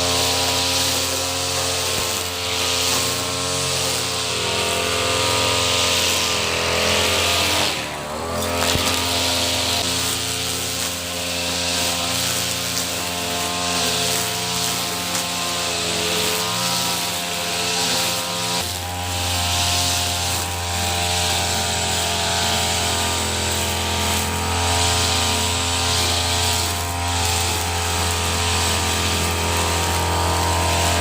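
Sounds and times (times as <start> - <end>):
brush cutter engine running: 0.0 - 31.0.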